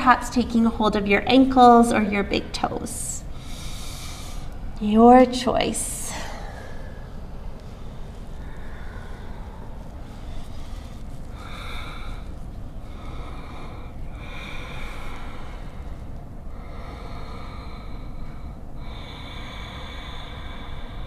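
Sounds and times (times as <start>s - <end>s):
low background hum: 0.0s - 21.0s
person breathing slowly: 3.0s - 4.8s, 5.9s - 21.0s.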